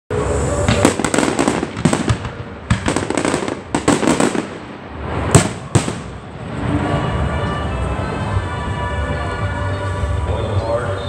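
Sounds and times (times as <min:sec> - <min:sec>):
fireworks crackling and banging: 0:00.1 - 0:10.7.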